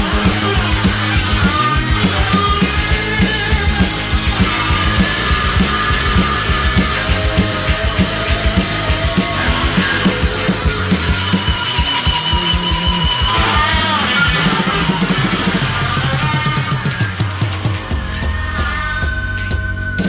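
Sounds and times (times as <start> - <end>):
rock music with driving drums: 0.0 - 20.0.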